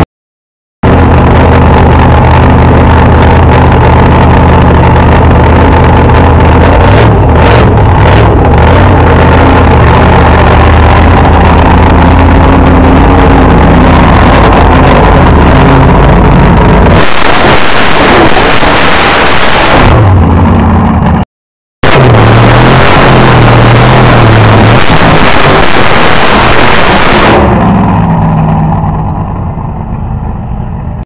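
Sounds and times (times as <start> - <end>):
drag car engine idling: 0.8 - 21.2, 21.8 - 31.0.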